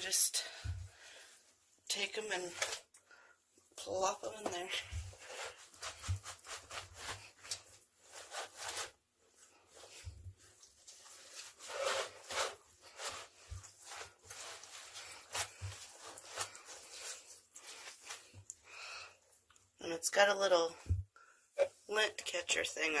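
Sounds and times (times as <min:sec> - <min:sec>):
wet cloth rustling on plastic: 0:00.0 - 0:23.0.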